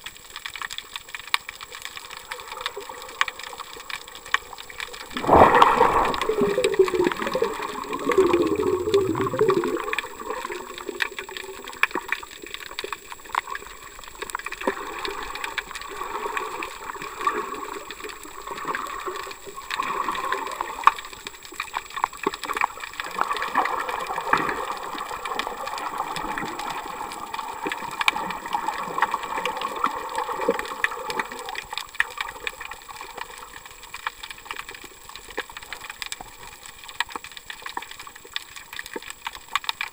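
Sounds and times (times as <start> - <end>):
small clicks and crackles: 0.0 - 39.9
underwater sloshing and gurgling: 0.0 - 39.9.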